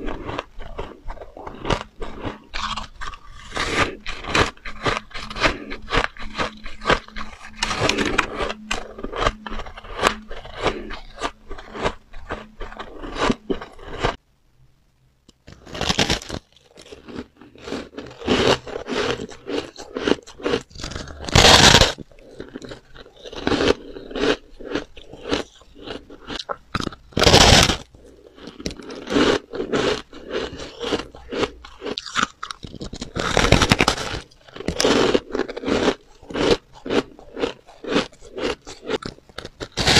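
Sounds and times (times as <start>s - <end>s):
crunching and chewing shaved ice: 0.0s - 14.2s, 15.4s - 39.9s.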